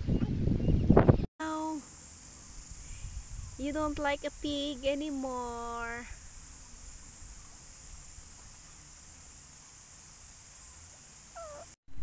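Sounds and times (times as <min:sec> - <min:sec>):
high-pitched hiss: 0:01.4 - 0:11.8.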